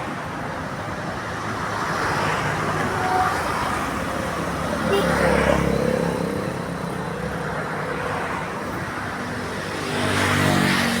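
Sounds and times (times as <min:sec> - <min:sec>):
road noise hum: 0:00.0 - 0:11.0.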